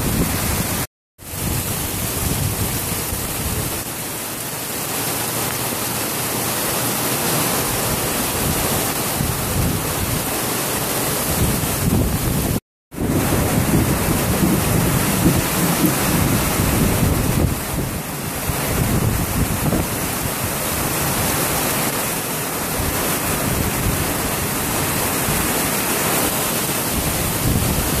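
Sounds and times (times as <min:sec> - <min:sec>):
wind gusting on microphone: 0:00.0 - 0:04.0, 0:07.1 - 0:28.0
heavy rain pouring: 0:00.0 - 0:28.0.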